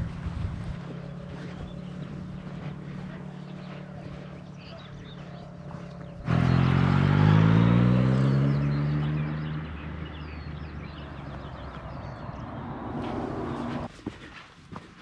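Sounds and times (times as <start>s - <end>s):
engine running loud: 0.0s - 13.9s.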